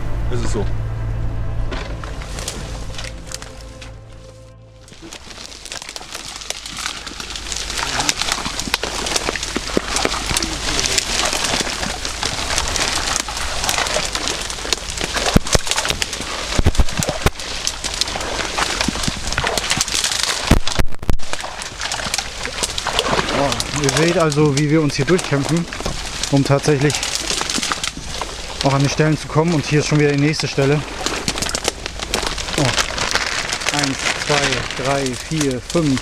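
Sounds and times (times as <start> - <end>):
dry reeds rustling and snapping: 1.7 - 36.0.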